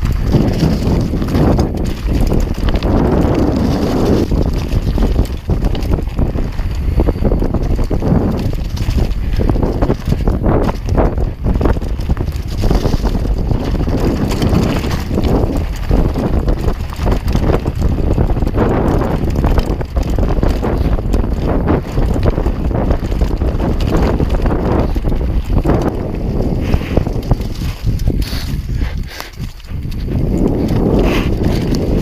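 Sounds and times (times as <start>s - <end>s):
bike knocking and rattling: 0.0s - 32.0s
tyres rolling on dirt: 0.0s - 32.0s
wind on microphone: 0.0s - 32.0s.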